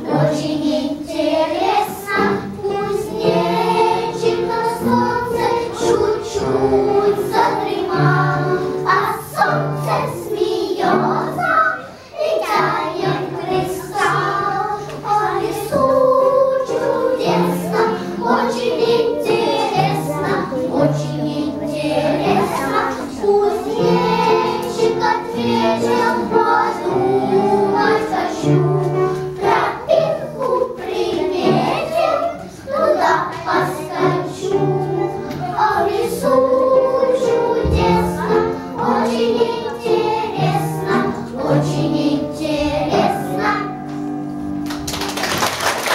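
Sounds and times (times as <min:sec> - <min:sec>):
girls singing together: 0:00.0 - 0:44.2
musical accompaniment: 0:00.0 - 0:45.9.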